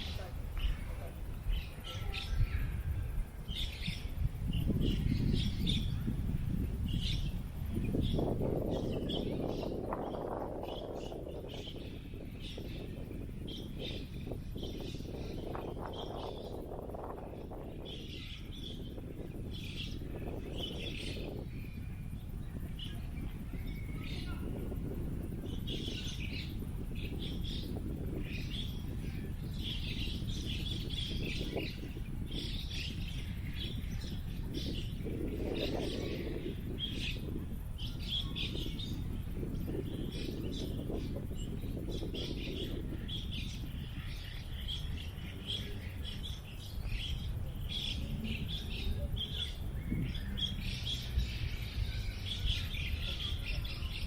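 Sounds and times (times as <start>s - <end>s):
low wind rumble: 0.0s - 54.0s
small birds chirping: 0.0s - 54.0s.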